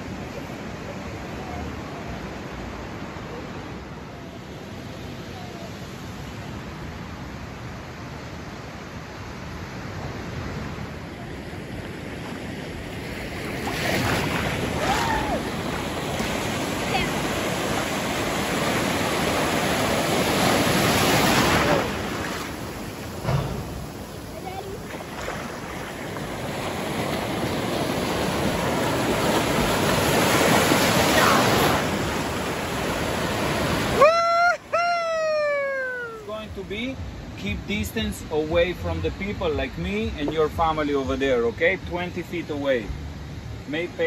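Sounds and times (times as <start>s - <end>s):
breaking waves: 0.0s - 39.0s
ocean surf: 0.0s - 44.0s.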